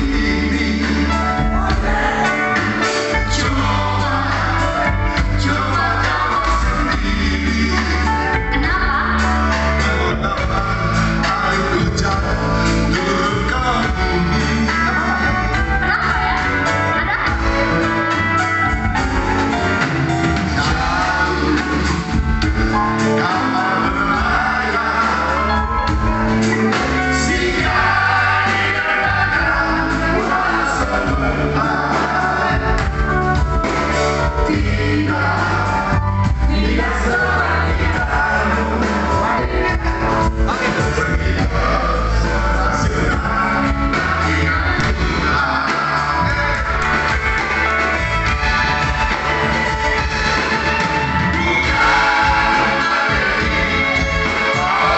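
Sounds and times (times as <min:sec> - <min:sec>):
drums beating: 0:00.0 - 0:09.0, 0:10.4 - 0:54.9
live band playing: 0:00.0 - 0:54.9
person singing: 0:00.0 - 0:54.9
steady bass line: 0:00.0 - 0:54.9.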